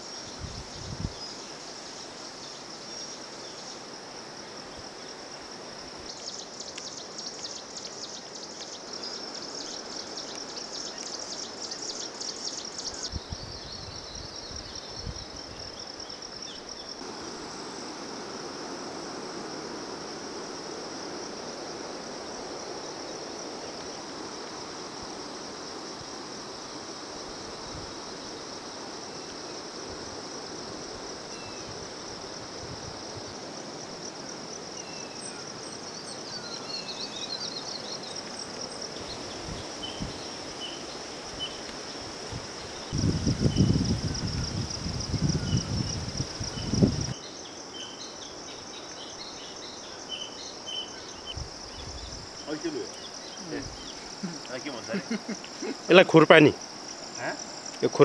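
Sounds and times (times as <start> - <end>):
insect pulsing chirr: 0.0 - 58.0
insects buzzing: 0.0 - 58.0
outdoor hiss: 0.0 - 58.0.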